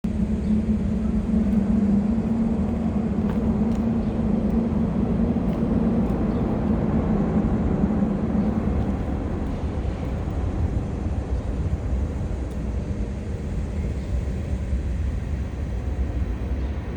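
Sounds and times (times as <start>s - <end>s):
diesel locomotives rumbling: 0.0s - 16.9s.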